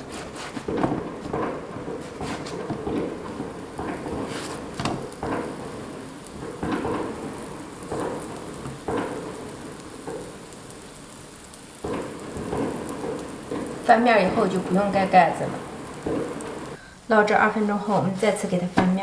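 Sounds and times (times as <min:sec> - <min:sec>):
oil sizzling under flatbread: 0:00.0 - 0:19.0.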